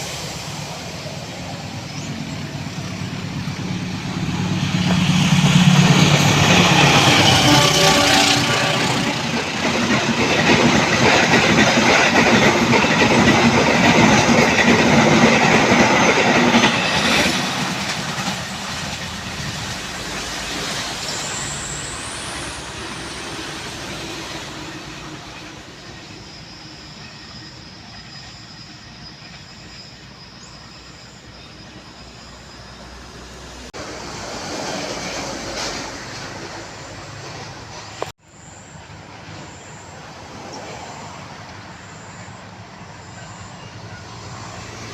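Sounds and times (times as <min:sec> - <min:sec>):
high rising squeal: 0:00.0 - 0:44.9
train rumbling over rails: 0:00.0 - 0:44.9.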